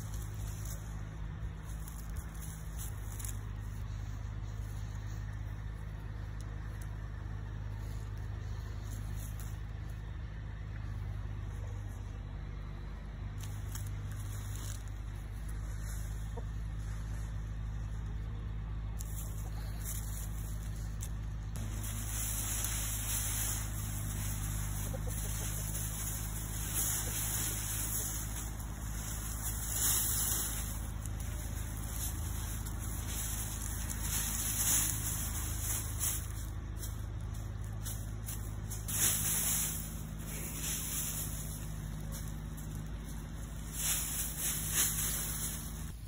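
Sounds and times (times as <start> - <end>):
faint rustles: 0.0 - 46.0
low mechanical hum: 0.0 - 46.0.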